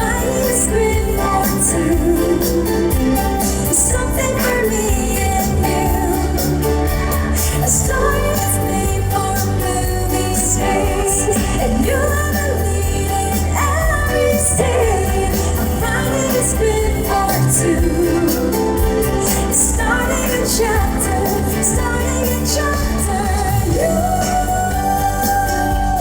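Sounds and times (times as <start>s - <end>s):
backing music with steady bass: 0.0s - 26.0s
woman singing a slow ballad: 0.0s - 26.0s.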